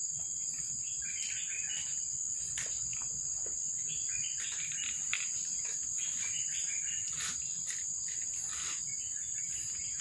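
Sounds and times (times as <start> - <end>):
insects droning: 0.0 - 10.0
short insect chirps: 0.0 - 10.0.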